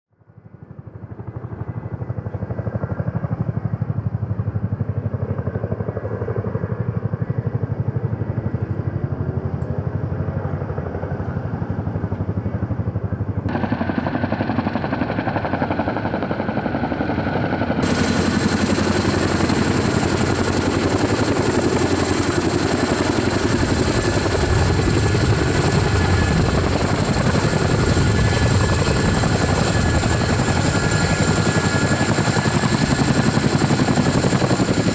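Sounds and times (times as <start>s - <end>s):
helicopter rotors beating: 0.2s - 34.9s
turbine engine whine: 0.6s - 34.9s.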